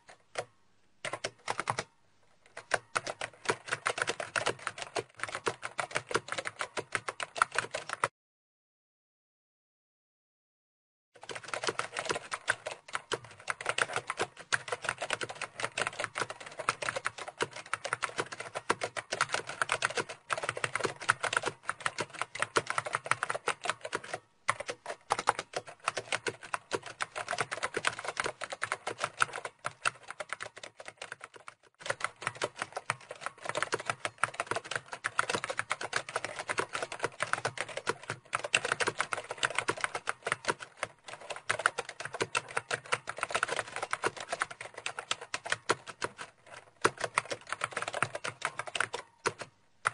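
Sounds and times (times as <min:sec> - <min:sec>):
fast typing on keyboard: 0:00.0 - 0:08.1, 0:11.2 - 0:49.9.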